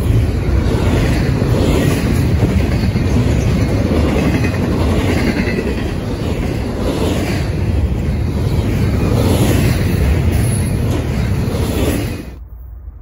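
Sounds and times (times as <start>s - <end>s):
freight train wheels clattering: 0.0s - 12.4s.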